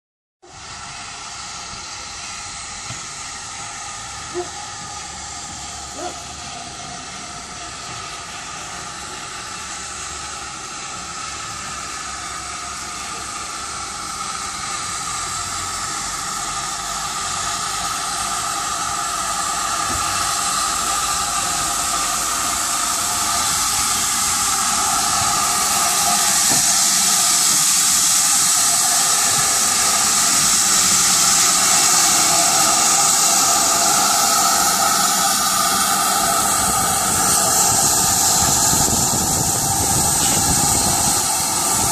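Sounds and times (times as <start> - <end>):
steam locomotive hissing: 0.4 - 41.9.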